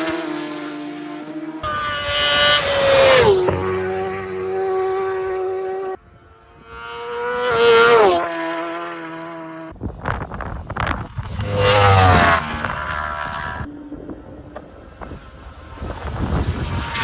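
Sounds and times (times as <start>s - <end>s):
superbikes passing at high speed: 0.0s - 17.0s.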